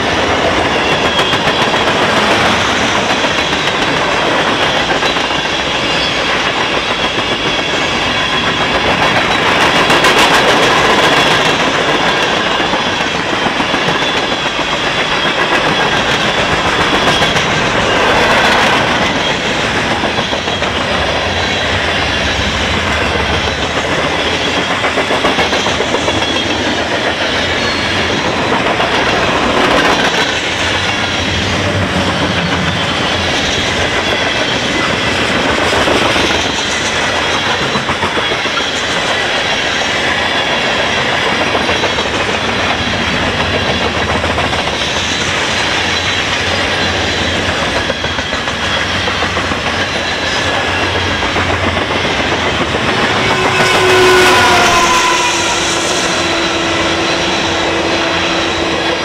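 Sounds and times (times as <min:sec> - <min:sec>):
clickety-clack over rail joints: 0:00.0 - 0:59.0
freight train wheels rumbling: 0:00.0 - 0:59.0.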